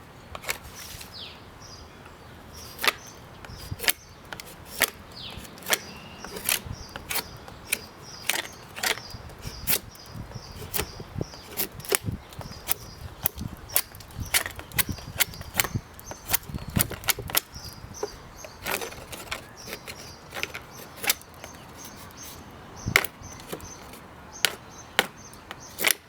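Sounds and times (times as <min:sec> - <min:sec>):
knife cutting wood: 0:02.6 - 0:26.0.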